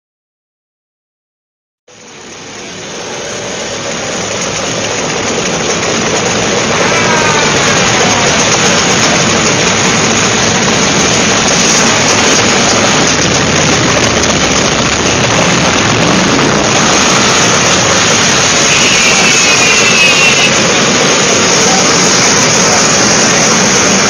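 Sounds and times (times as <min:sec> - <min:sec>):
scooter engines running: 0:01.9 - 0:24.0.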